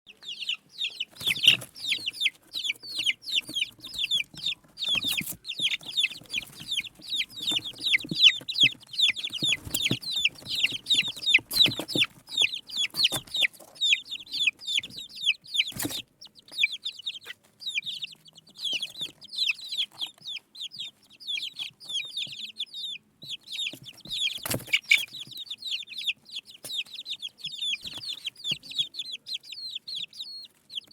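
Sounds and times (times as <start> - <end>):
baby chicks peeping: 0.0 - 30.9.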